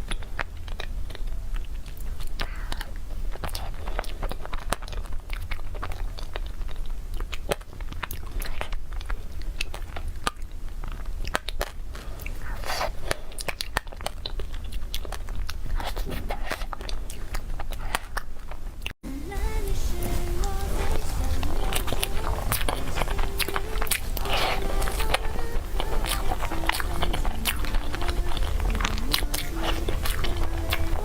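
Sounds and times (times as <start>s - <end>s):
crunchy biting and chewing: 0.0s - 19.0s, 20.0s - 31.0s
steady low hum: 0.0s - 31.0s.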